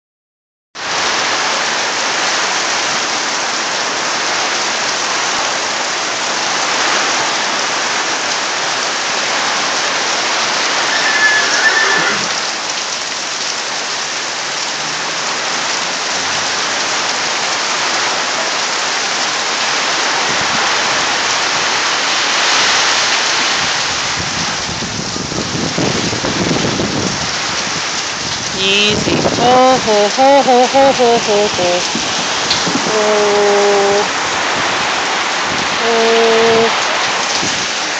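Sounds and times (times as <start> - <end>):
heavy rain falling: 0.8 - 37.9.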